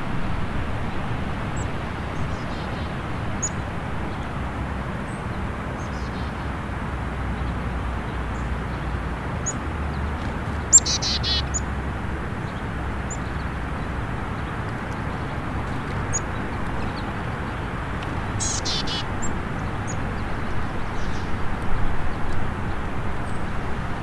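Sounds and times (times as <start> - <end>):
outdoor rumble and hiss: 0.0 - 24.0
songbird chirps: 0.9 - 24.0.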